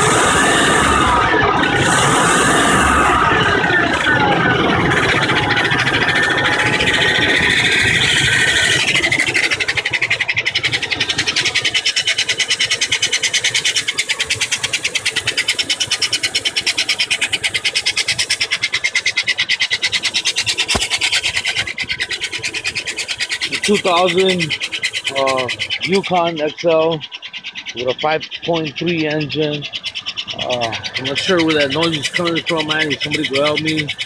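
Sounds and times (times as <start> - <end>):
car engine running: 0.0 - 34.0
fast chirping squeal: 0.0 - 34.0
wavering high-pitched sound: 0.0 - 34.0.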